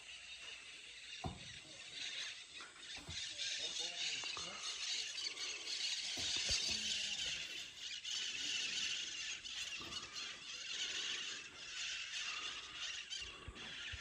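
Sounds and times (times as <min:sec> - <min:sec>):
flock of birds squealing: 0:00.0 - 0:14.0.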